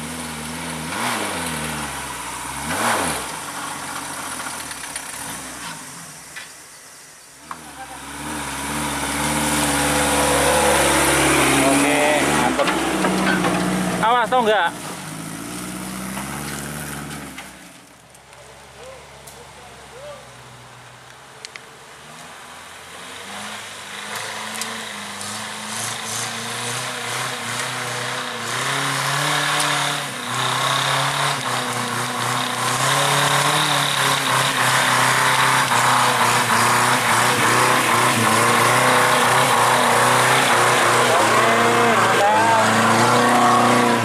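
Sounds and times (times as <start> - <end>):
off-road vehicle engine revving: 0.0 - 6.5, 7.4 - 17.9, 21.9 - 44.0.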